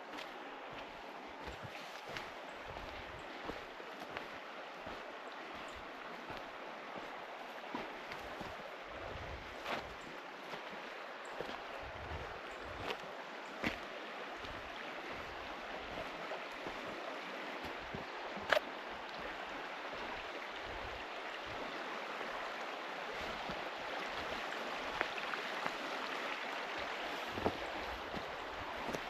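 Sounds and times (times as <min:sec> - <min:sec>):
forest stream rushing: 0:00.0 - 0:29.0.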